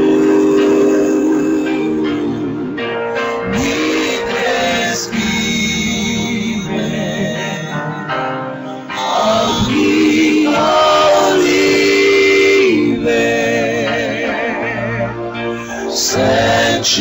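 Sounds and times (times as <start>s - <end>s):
choir singing a worship song: 0.0s - 8.1s, 8.8s - 17.0s.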